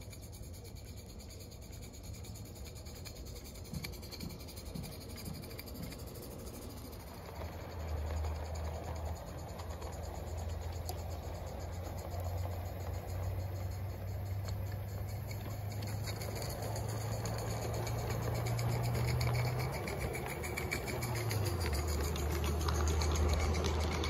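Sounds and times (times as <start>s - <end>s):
model train motor hum: 0.0s - 24.0s
wheels clicking on rails: 0.0s - 24.0s.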